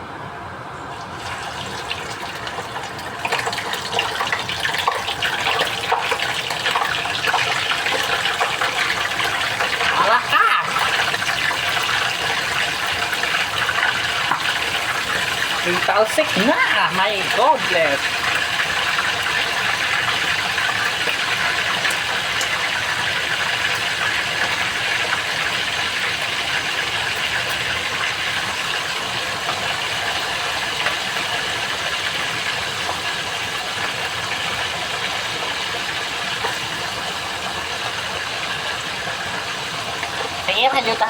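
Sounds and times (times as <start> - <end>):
chicken frying in hot oil: 0.8 - 41.0.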